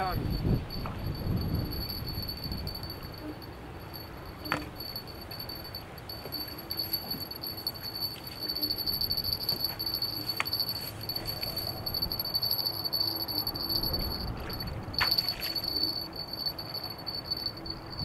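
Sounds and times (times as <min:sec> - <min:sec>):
fishing reel whine: 0:00.0 - 0:18.0
wind rumble on microphone: 0:00.0 - 0:18.0.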